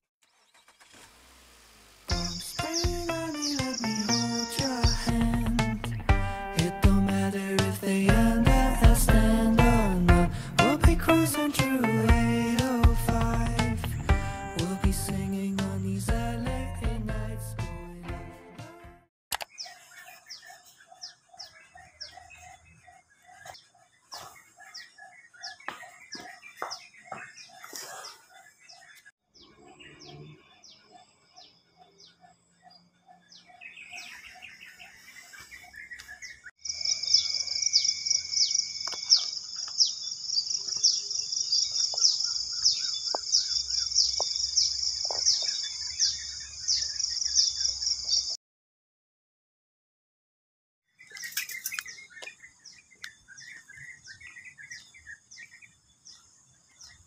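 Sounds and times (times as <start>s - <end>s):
high-pitched chirping chorus: 2.1s - 16.9s, 19.4s - 48.4s, 51.0s - 57.0s
birds chirping and calling: 2.1s - 17.0s, 19.4s - 48.4s, 50.9s - 57.0s.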